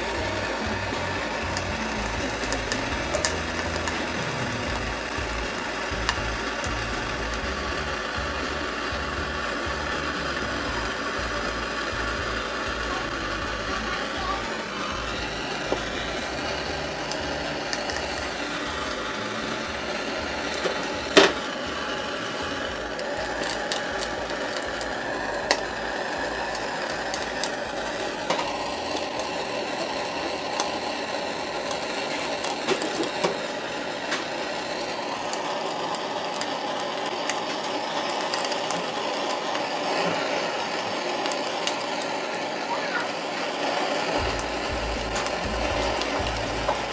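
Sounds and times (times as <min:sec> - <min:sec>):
blowtorch hissing: 0:00.0 - 0:46.9
egg and oil crackling in pan: 0:00.0 - 0:46.9.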